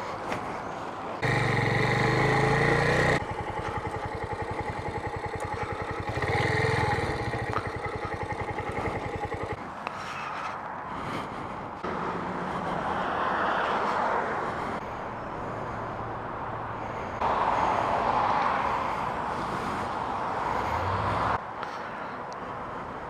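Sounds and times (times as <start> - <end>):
highway traffic rushing: 0.0 - 23.0.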